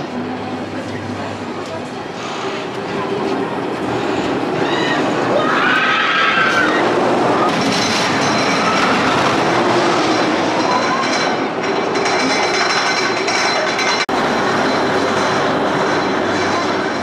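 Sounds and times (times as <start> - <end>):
roller coaster rattling on steel track: 0.0 - 17.0
roller coaster wheel squeal: 2.2 - 17.0.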